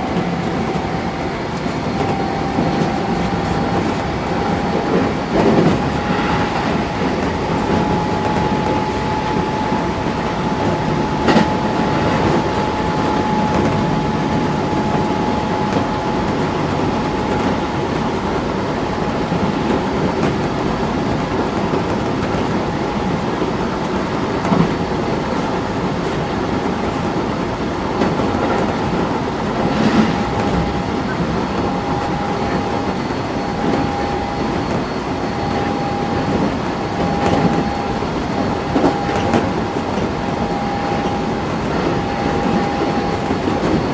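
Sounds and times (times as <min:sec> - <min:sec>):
thin steady whine: 0:00.0 - 0:43.9
train wheels rumbling on rail: 0:00.0 - 0:43.9.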